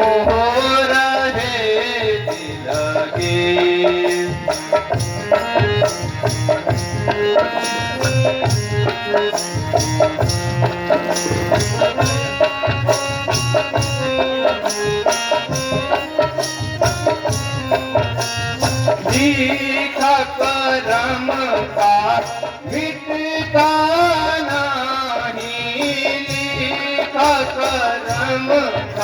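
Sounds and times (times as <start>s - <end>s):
drum beating steady rhythm: 0.0s - 29.0s
folk music instrumental: 0.0s - 29.0s.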